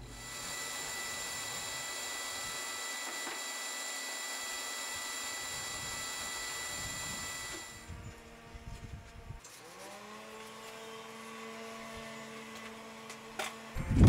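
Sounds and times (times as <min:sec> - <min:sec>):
shop vacuum running: 0:00.0 - 0:14.0.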